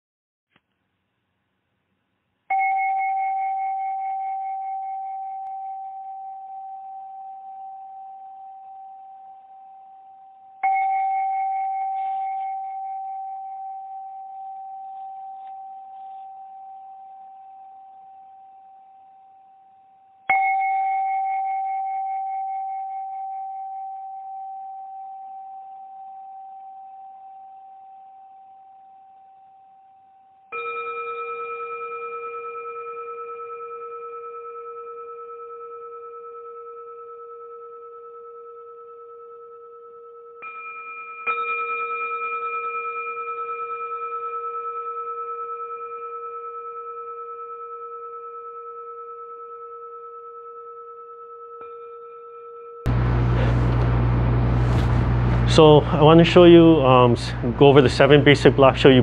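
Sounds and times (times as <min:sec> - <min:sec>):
singing bowls ringing: 0:02.5 - 0:59.0.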